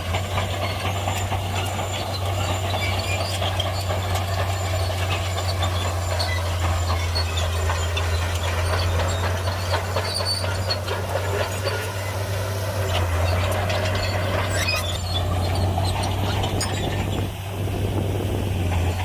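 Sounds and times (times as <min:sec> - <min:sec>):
tracks and blade rattling: 0:00.0 - 0:17.4
bulldozer engine droning: 0:00.0 - 0:19.0.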